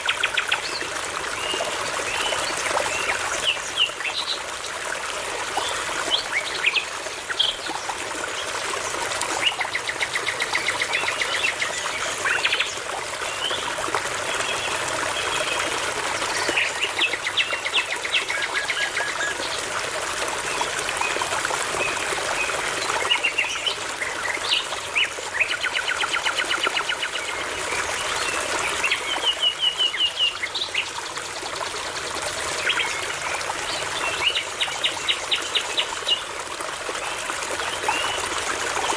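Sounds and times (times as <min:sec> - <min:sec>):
babbling brook: 0:00.0 - 0:38.9.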